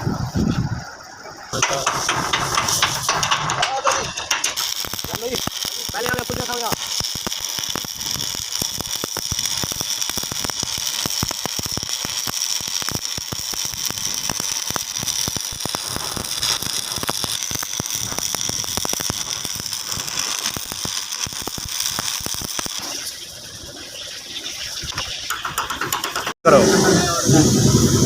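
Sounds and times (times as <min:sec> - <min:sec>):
high hiss: 0:00.0 - 0:25.7
welding arc crackling: 0:01.5 - 0:28.0.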